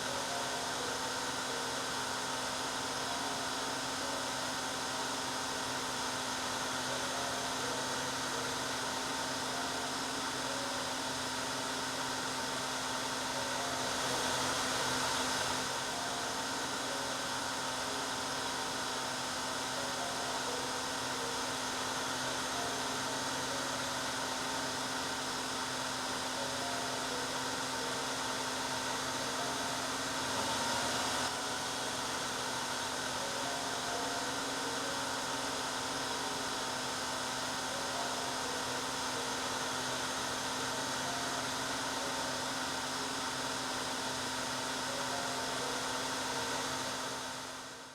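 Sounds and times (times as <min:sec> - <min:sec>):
hair dryer running: 0:00.0 - 0:47.9.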